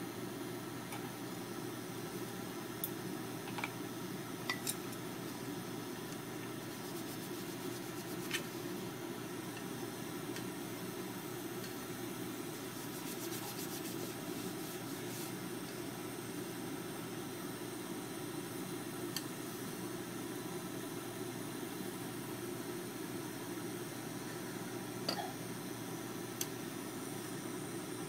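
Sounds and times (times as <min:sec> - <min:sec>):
low fan whir: 0:00.0 - 0:28.0.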